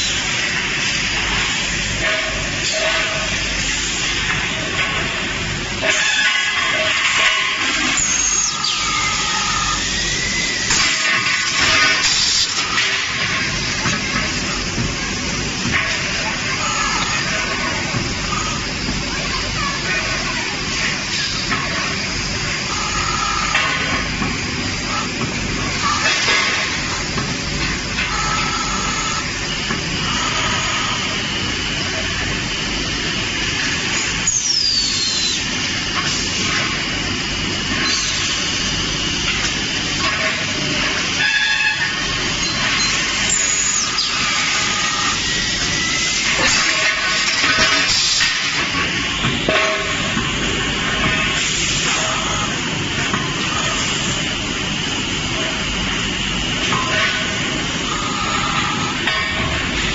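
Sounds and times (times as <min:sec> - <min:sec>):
production line machinery running: 0:00.0 - 0:59.9
roll stamping machine: 0:00.0 - 0:59.9
steady mechanical hiss: 0:00.0 - 0:59.9.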